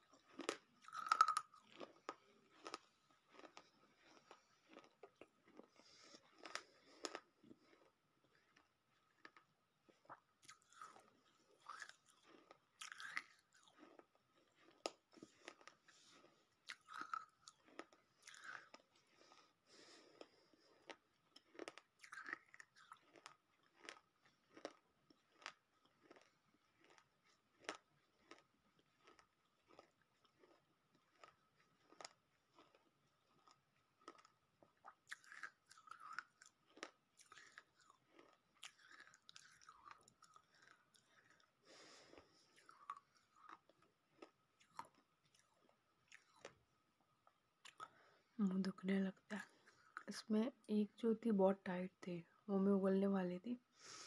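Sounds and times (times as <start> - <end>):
crunchy chewing: 0.0 - 46.6.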